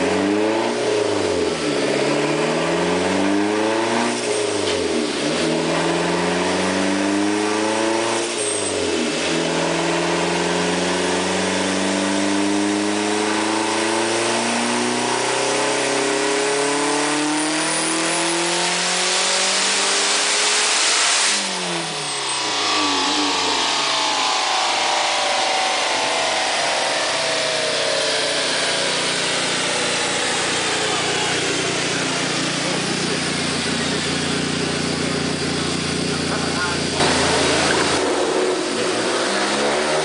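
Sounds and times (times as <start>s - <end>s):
car engine at full throttle: 0.0s - 40.0s.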